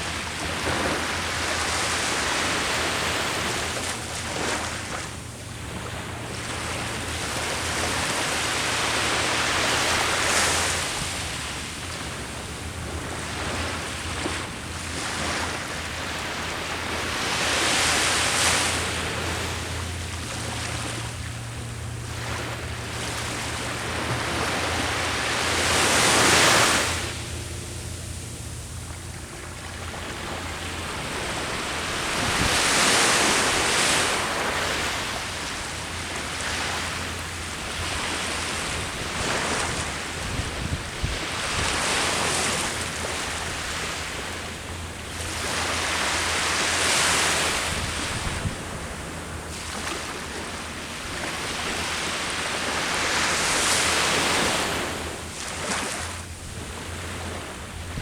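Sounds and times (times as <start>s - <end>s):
low surf rumble: 0.0s - 58.0s
waves breaking on shore: 0.0s - 58.0s.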